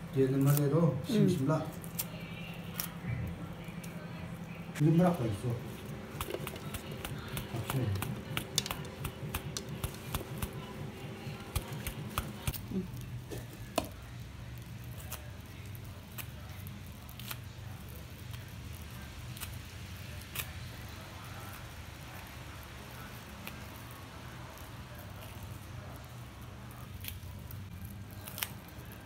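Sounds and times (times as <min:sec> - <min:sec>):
faint steady hum: 0:00.0 - 0:29.0
papery nest crackling and clicking: 0:03.6 - 0:29.0.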